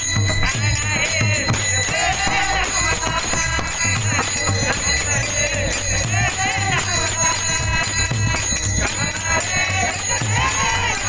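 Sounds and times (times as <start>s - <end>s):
hand cymbals jingling: 0.0s - 11.0s
steady drum beat: 0.0s - 11.0s.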